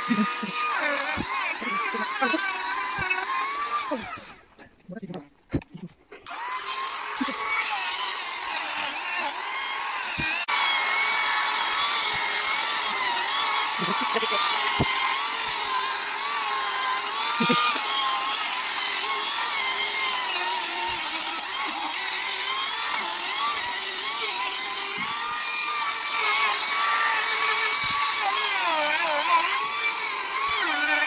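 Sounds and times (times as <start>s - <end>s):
rotary tool sanding wood: 0.0s - 4.7s, 6.2s - 31.0s.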